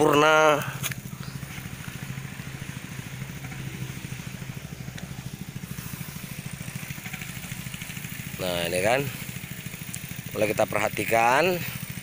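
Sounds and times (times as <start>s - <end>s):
power sprayer engine pulsing: 0.0s - 12.0s.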